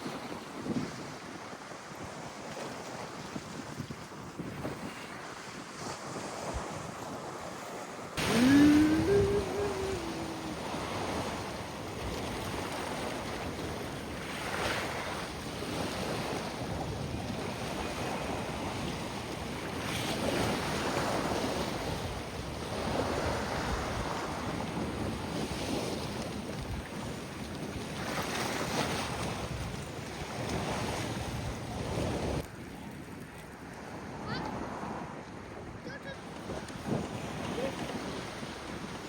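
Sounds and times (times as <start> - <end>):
sea waves washing onto beach: 4.7 - 39.0.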